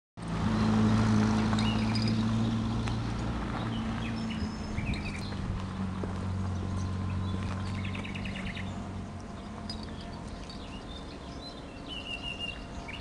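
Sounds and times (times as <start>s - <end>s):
birds chirping: 0.4s - 13.0s
faint footsteps on gravel: 1.1s - 13.0s.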